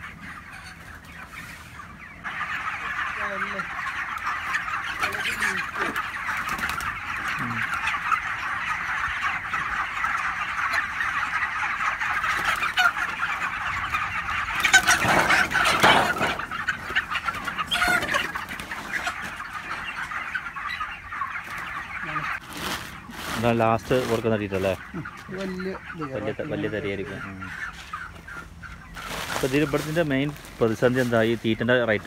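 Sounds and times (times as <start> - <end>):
chickens peeping and clucking: 0.0 - 32.0.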